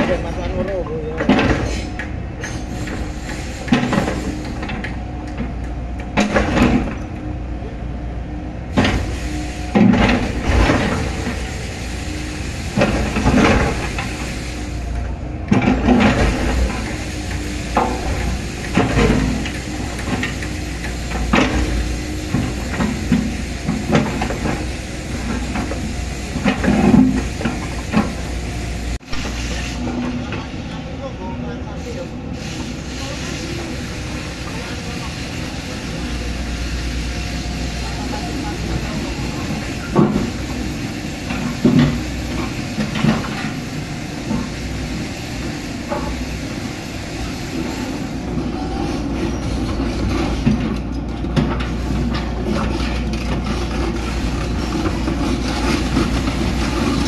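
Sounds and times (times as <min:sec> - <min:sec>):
excavator diesel engine surging: 0:00.0 - 0:57.0
hydraulic hiss: 0:01.4 - 0:05.4, 0:08.6 - 0:57.0.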